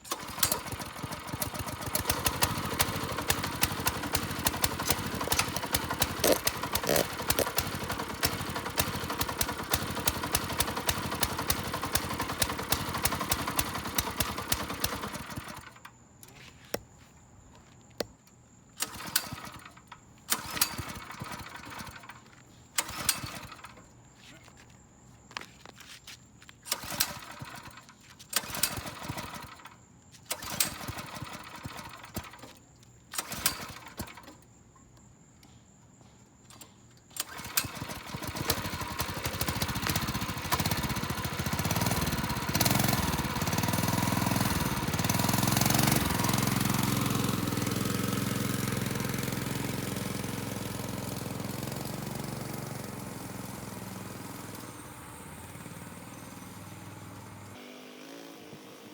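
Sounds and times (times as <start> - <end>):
small motorbike engine revving: 0.0 - 15.8, 18.8 - 22.2, 22.8 - 23.8, 26.7 - 32.5, 33.2 - 34.4, 37.2 - 58.9.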